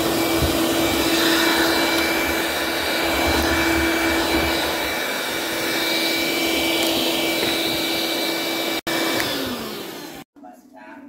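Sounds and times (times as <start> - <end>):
handheld vacuum running: 0.0 - 10.3.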